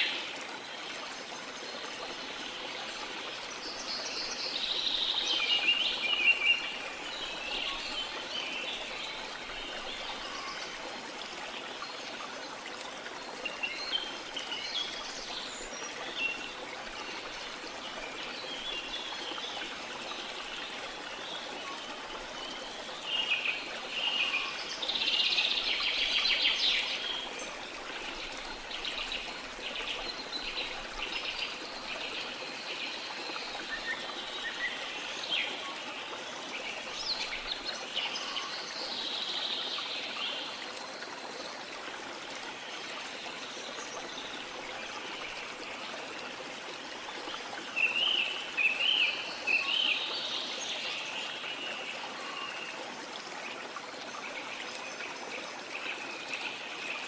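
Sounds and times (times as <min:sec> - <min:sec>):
rush of falling water: 0:00.0 - 0:57.0.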